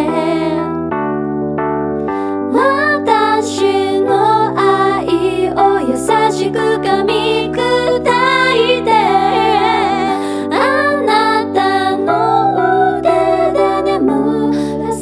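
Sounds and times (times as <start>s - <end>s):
sustained keyboard chords: 0.0s - 15.0s.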